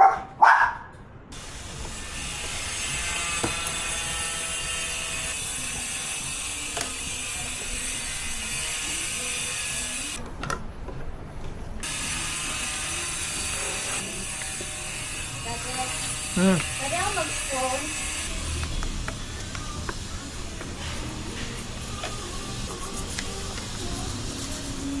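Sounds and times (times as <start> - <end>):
ratchet wrench clicking: 2.0 - 10.2, 11.8 - 25.0.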